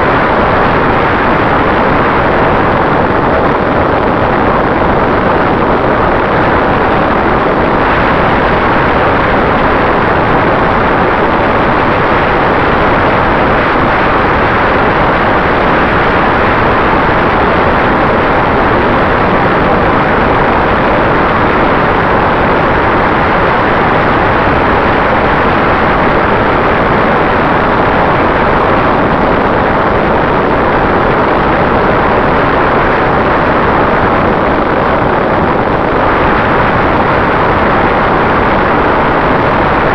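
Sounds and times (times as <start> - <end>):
faint hum: 0.0 - 39.9
wind and propellers rushing: 0.0 - 39.9.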